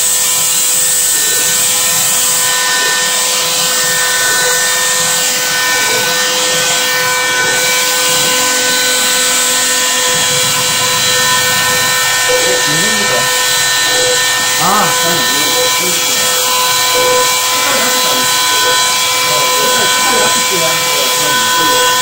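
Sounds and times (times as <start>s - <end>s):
router high-pitched whine: 0.0s - 22.0s.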